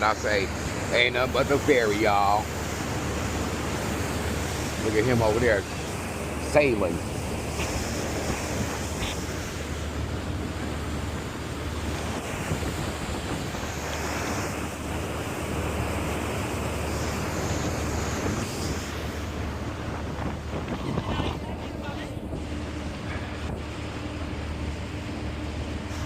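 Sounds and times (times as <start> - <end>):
wind buffeting microphone: 0.0 - 25.9
low engine drone: 0.0 - 26.0
water rushing along hull: 0.0 - 26.0.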